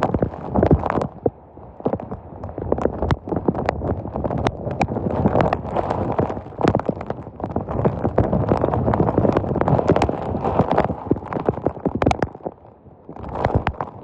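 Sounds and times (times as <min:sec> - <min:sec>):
rain and wind rushing: 0:00.0 - 0:14.0.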